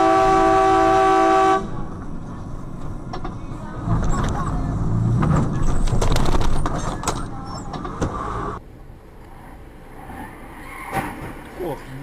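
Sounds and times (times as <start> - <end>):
road vehicle noise: 0.0 - 12.0.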